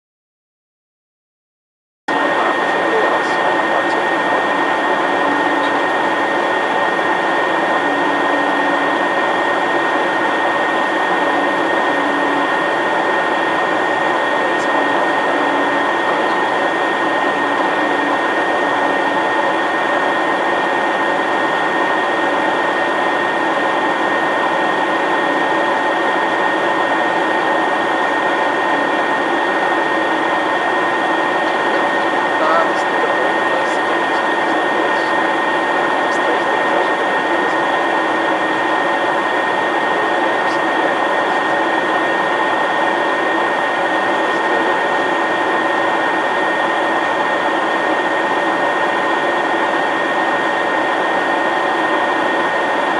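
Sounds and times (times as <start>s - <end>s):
jet cabin engine rush: 2.1s - 52.9s
steady high whine: 2.1s - 52.9s.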